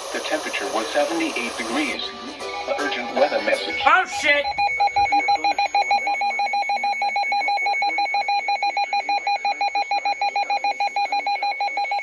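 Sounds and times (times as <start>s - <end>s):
rapid electronic alarm beeping: 0.1s - 2.0s, 3.9s - 12.0s.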